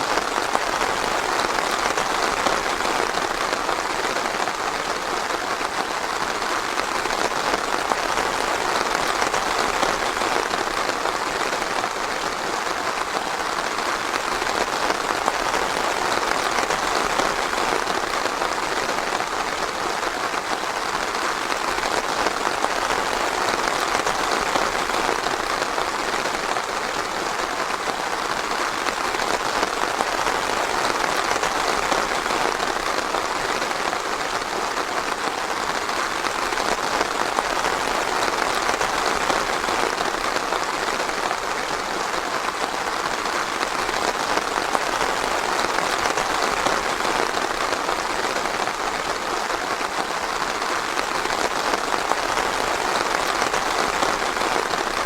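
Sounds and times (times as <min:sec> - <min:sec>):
rain falling on forest: 0:00.0 - 0:55.0.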